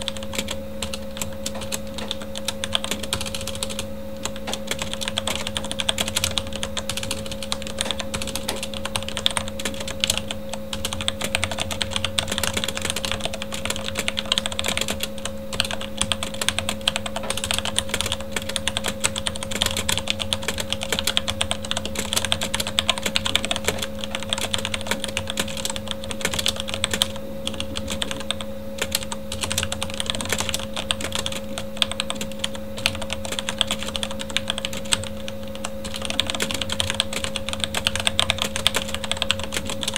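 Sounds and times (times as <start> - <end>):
computer fan hum: 0.0 - 39.9
mechanical keyboard typing: 0.0 - 39.9.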